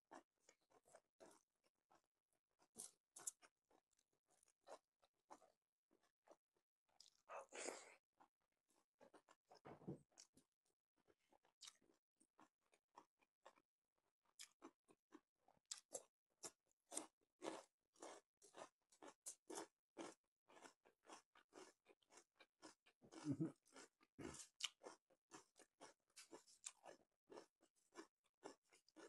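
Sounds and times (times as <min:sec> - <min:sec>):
crunchy chewing of radish: 0:00.1 - 0:09.6, 0:11.4 - 0:13.6, 0:14.3 - 0:29.0.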